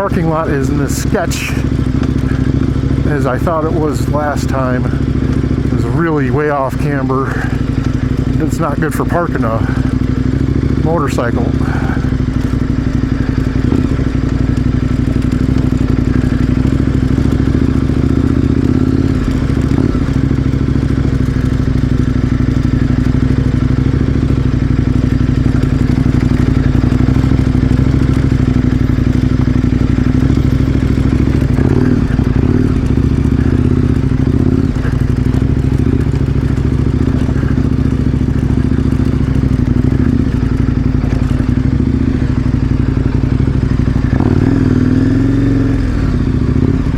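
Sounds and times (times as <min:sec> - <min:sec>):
motorcycle engine running steadily: 0:00.0 - 0:46.9.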